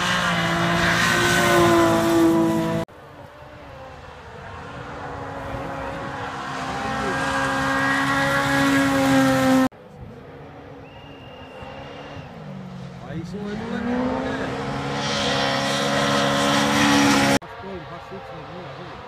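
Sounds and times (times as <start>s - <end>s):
distant engine: 0.0s - 19.0s
rally car engines revving high: 0.0s - 19.0s.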